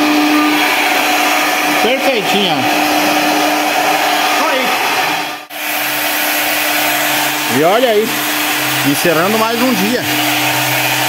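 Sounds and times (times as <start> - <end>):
wood router whooshing hum: 0.0 - 11.0.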